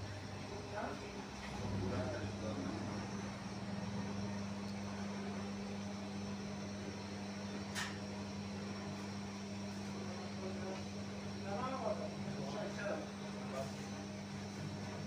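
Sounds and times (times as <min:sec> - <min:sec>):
electric machinery hum: 0:00.0 - 0:15.0.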